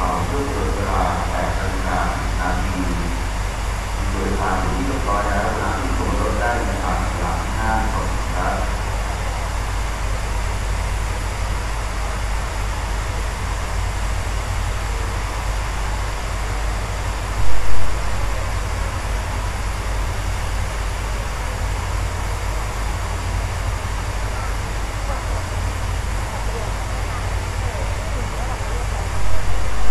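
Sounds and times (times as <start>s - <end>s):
steam locomotive hissing: 0.0s - 29.9s.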